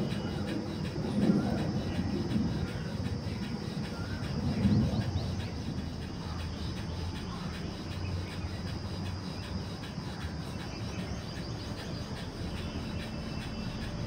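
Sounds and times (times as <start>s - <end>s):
bird chirping: 0.0s - 14.0s
low background rumble: 0.0s - 14.0s
rhythmic forceful nasal exhalations: 0.0s - 14.0s.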